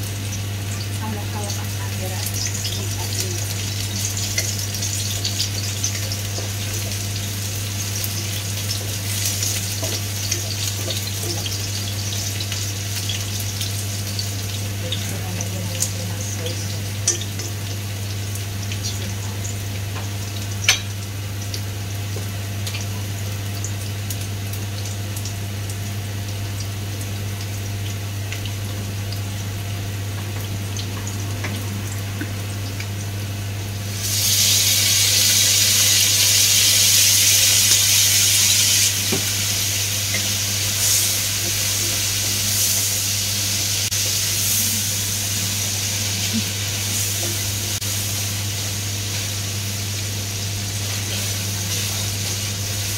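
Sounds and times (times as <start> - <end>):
aromatics sizzling in oil: 0.0 - 52.9.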